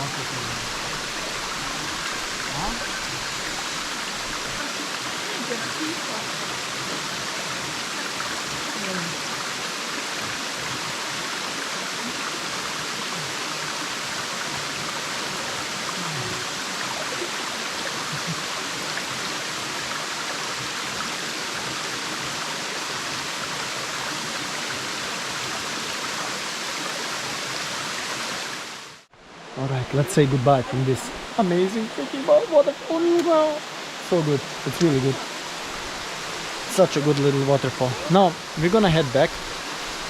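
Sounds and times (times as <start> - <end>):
small waterfall pouring: 0.0 - 40.0.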